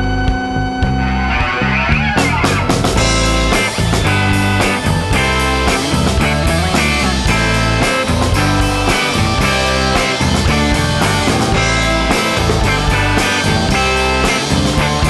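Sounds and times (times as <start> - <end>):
rock backing track: 0.0 - 15.0.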